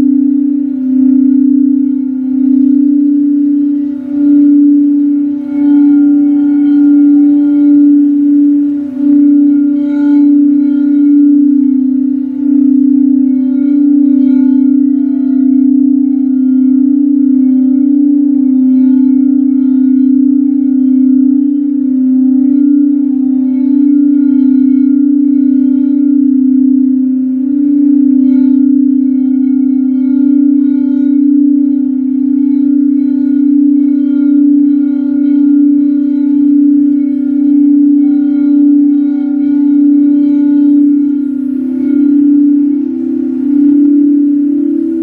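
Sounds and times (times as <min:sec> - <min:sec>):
singing bowl ringing tone: 0:00.0 - 0:45.0.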